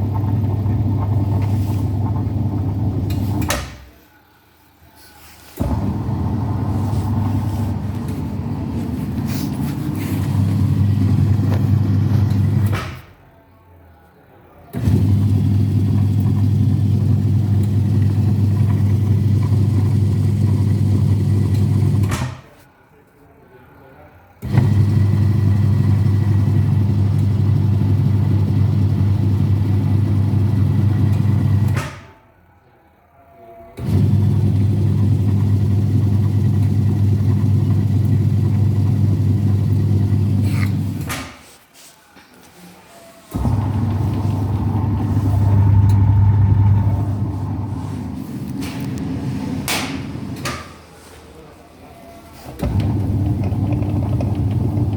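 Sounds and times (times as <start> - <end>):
washing machine spinning: 0.0 - 3.8, 5.6 - 13.0, 14.8 - 22.3, 24.4 - 31.9, 33.8 - 41.2, 43.3 - 50.9, 52.2 - 54.9.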